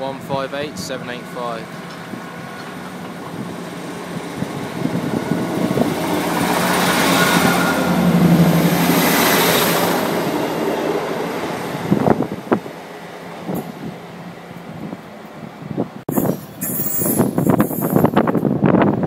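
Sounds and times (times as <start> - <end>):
train passing on tracks: 0.0 - 19.0.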